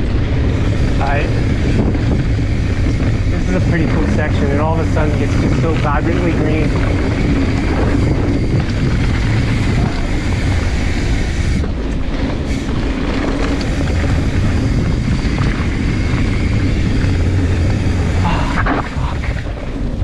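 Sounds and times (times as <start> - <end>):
bike rattling over rough ground: 0.0 - 20.0
bike tyres rolling: 0.0 - 20.0
wind on microphone: 0.0 - 20.0.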